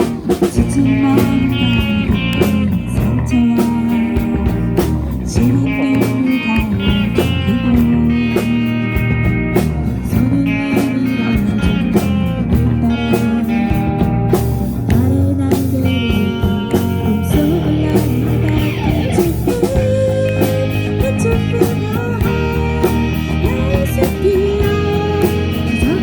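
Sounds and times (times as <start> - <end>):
guitar-led band music: 0.0 - 26.0
steady beats: 0.0 - 26.0.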